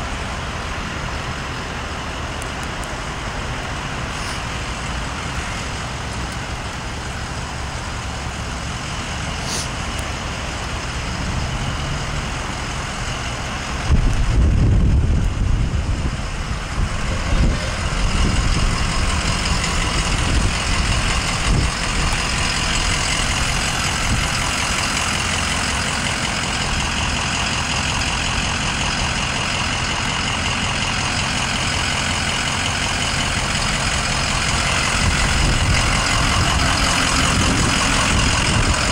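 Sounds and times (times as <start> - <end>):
fire truck engines idling: 0.0 - 38.9
loud low rumble: 3.0 - 38.9.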